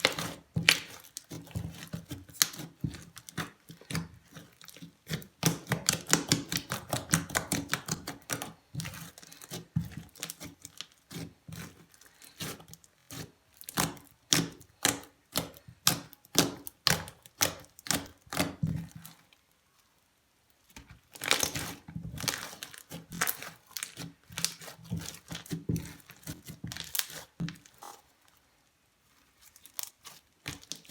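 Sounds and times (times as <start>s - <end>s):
crunchy slime crackling: 0.0s - 19.3s, 21.0s - 28.4s, 29.0s - 30.9s.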